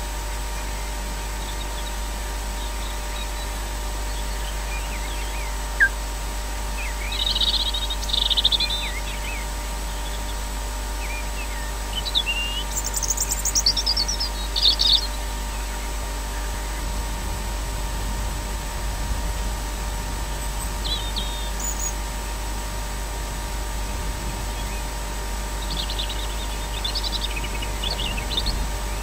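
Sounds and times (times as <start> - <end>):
microphone hiss and hum: 0.0 - 29.0
songbird singing: 0.4 - 17.0, 20.2 - 22.6, 24.3 - 29.0.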